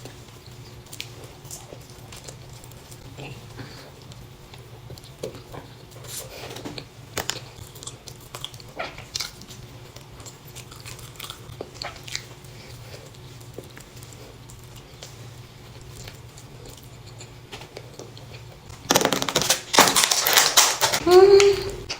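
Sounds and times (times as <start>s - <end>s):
person chewing pastry: 0.0s - 18.9s
low steady hum: 0.0s - 21.9s.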